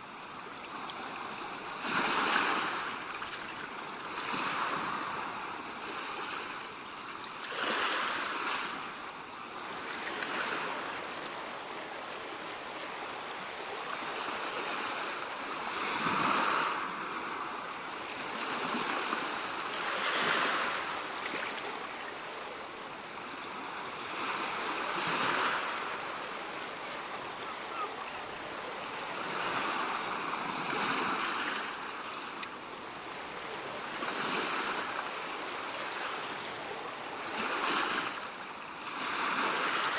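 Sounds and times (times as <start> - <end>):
ocean waves breaking: 0.6 - 39.9.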